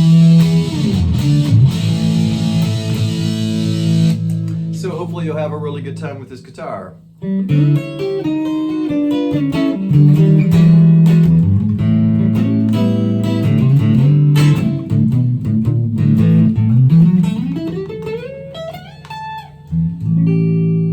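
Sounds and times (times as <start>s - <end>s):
electric guitar playing: 0.0s - 20.9s.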